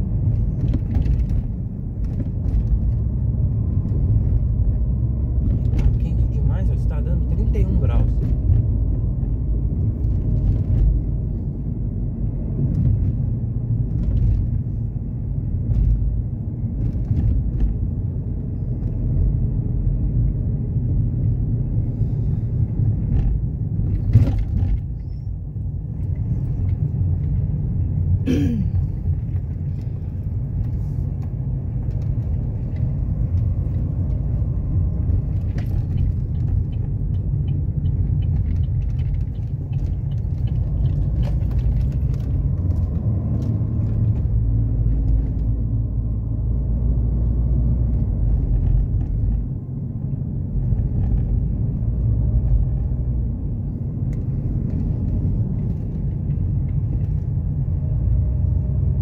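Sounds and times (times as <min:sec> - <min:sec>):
car driving heard from cabin: 0:00.0 - 0:59.0.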